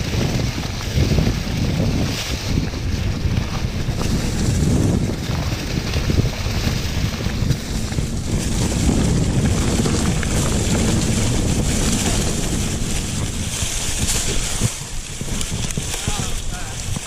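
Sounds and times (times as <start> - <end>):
bike rattling: 0.0 - 17.0
tyres rolling over dry leaves: 0.0 - 17.0
wind buffeting microphone: 0.0 - 17.0.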